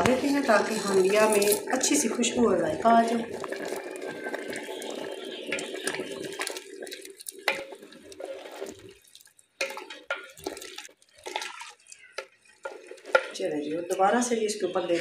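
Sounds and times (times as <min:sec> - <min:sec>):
water running: 0:00.0 - 0:15.0.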